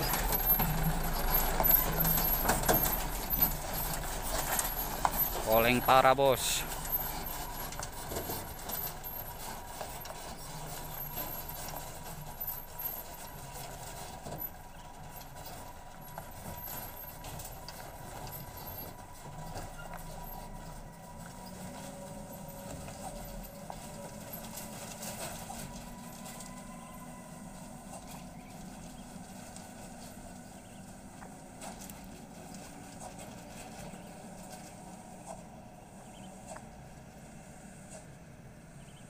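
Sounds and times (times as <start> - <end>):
truck body knocking and rattling: 0.0 - 6.0, 6.6 - 36.7
diesel truck engine running: 0.0 - 39.0.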